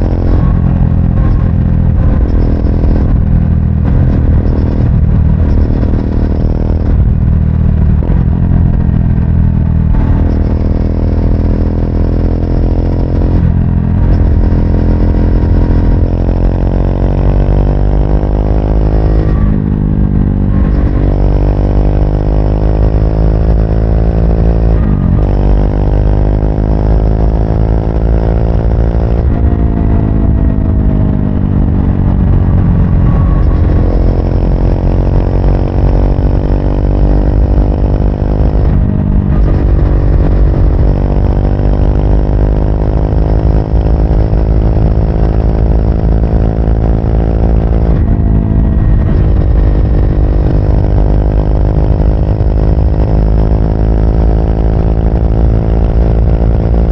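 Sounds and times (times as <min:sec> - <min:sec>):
motorcycle engine shifting gears: 0:00.0 - 0:56.9.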